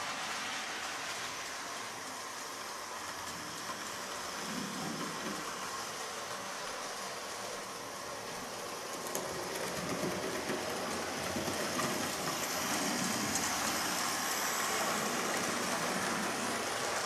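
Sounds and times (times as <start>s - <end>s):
wheels rushing on rails: 0.0s - 17.0s.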